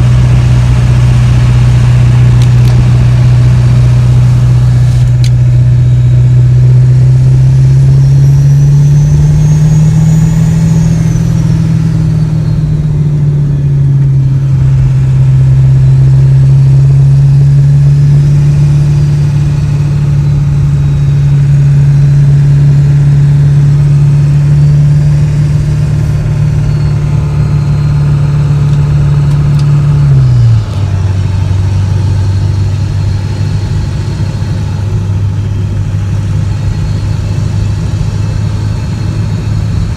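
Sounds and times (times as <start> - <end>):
diesel exhaust drone: 0.0 - 39.9
faint turbo whistle: 0.0 - 39.9.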